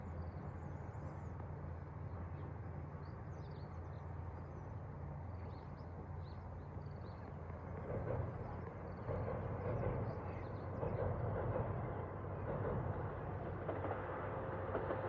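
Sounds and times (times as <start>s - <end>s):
train engine humming: 0.0s - 15.0s.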